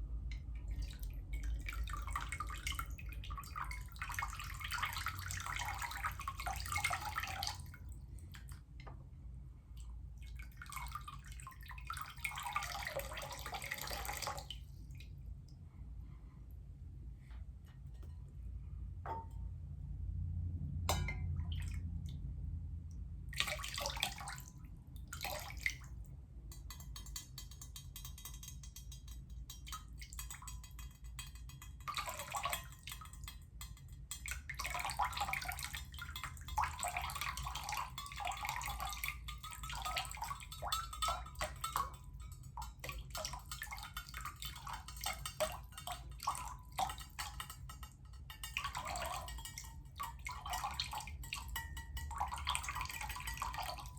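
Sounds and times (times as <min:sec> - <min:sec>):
water dripping and trickling: 0:00.3 - 0:08.9, 0:09.8 - 0:15.2, 0:20.9 - 0:22.2, 0:23.3 - 0:53.9.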